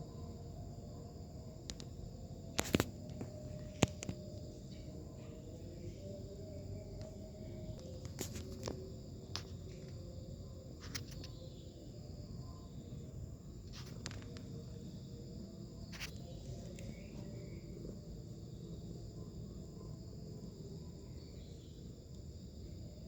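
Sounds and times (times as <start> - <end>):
high insect chirring: 0.0 - 23.0.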